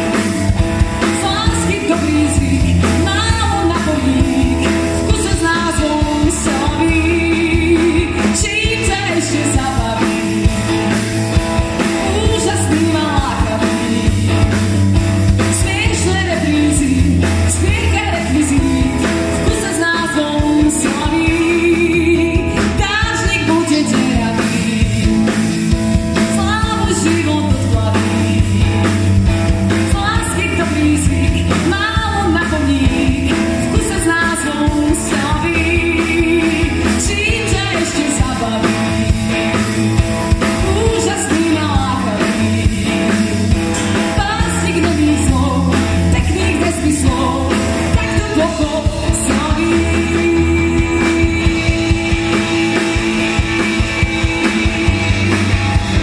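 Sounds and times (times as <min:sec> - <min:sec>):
live pop-rock band: 0:00.0 - 0:56.0
woman singing lead: 0:00.0 - 0:56.0.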